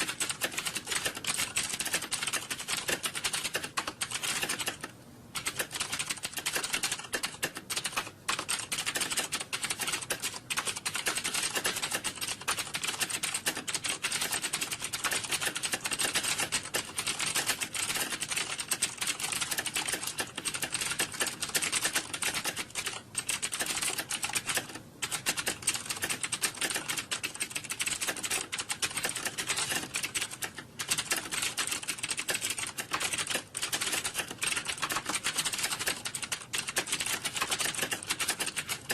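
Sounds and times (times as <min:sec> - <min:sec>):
keyboards typing fast: 0:00.0 - 0:38.9.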